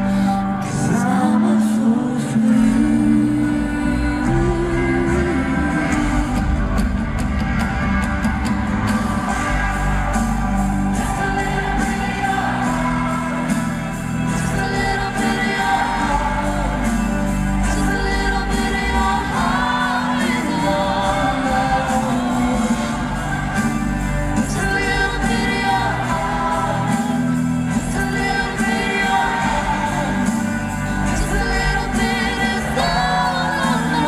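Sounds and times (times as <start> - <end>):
person singing: 0.0 - 7.7, 8.9 - 34.0
instrumental accompaniment: 4.2 - 34.0.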